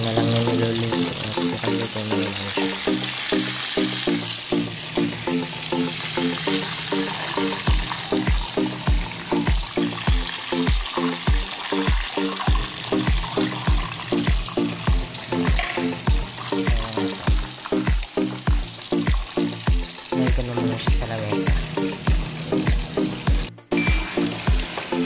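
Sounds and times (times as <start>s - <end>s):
background music with beat: 0.0s - 25.0s
chicken deep-frying in oil: 0.0s - 25.0s.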